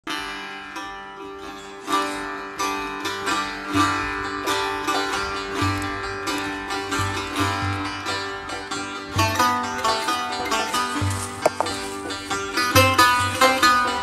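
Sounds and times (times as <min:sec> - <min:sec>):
plucked string melody: 0:00.1 - 0:14.0.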